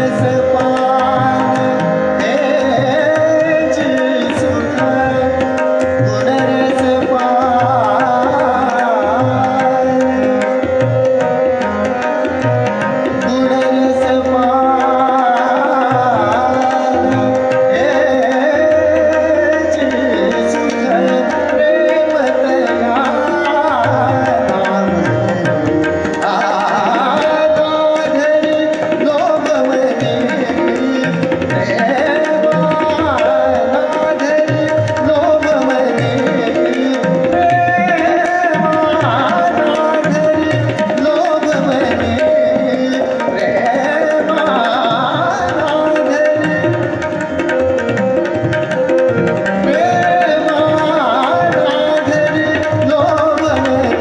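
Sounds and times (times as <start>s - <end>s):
harmonium: 0.0s - 54.0s
man singing: 0.0s - 54.0s
tabla rhythm: 0.0s - 54.0s.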